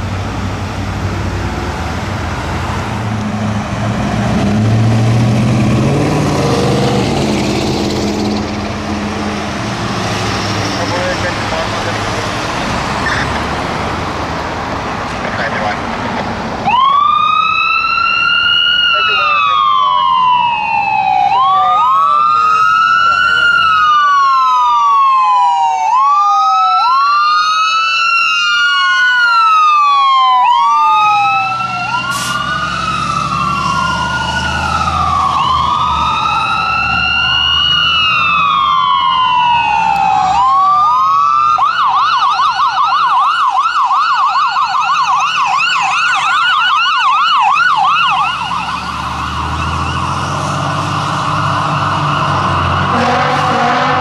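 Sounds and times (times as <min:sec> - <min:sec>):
diesel engines rumbling: 0:00.0 - 0:54.0
fire truck sirens wailing: 0:00.0 - 0:54.0.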